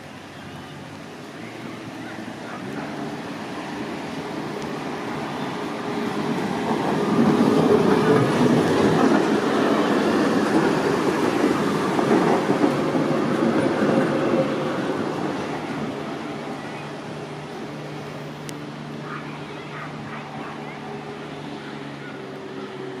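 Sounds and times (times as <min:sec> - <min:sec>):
tram wheels rumbling over rails: 0:00.0 - 0:23.0.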